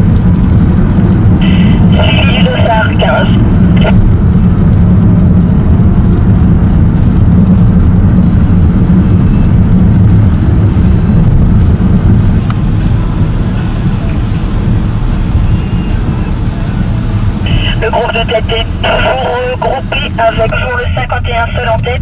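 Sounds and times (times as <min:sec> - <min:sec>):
car driving on wet road: 0:00.0 - 0:22.0.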